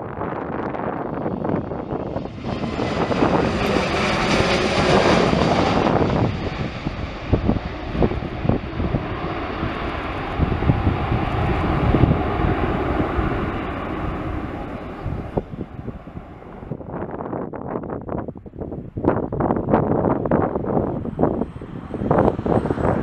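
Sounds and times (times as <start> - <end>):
jet engine roar: 0.0 - 23.0
wind on microphone: 0.0 - 23.0.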